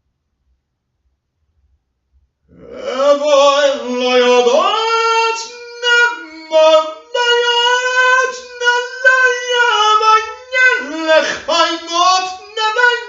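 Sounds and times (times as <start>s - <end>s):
person singing long notes: 2.5s - 13.0s.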